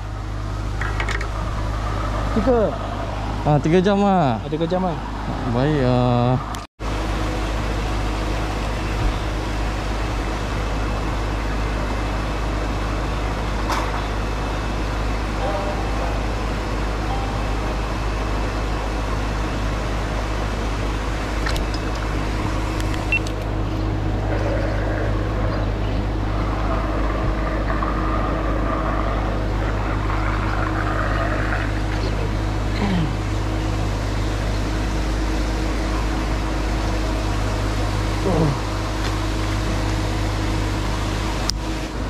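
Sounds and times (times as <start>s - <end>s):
pond aerator droning: 0.0s - 42.0s.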